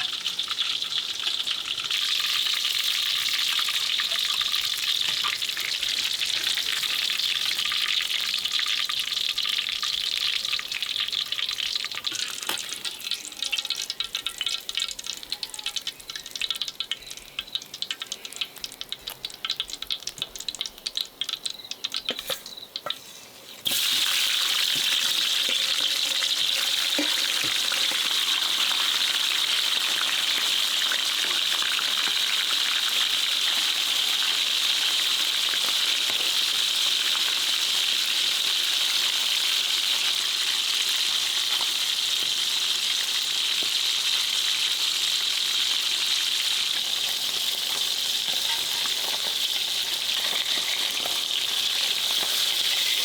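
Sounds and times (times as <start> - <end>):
food frying in a pan: 0.0 - 53.0.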